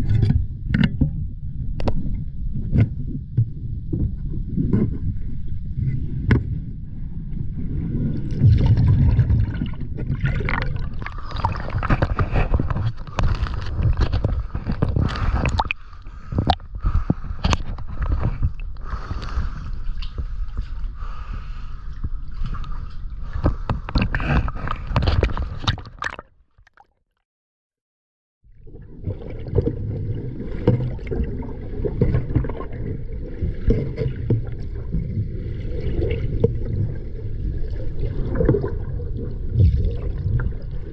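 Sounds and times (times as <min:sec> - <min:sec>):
water gurgling and sloshing: 0:00.0 - 0:26.9, 0:28.5 - 0:40.9.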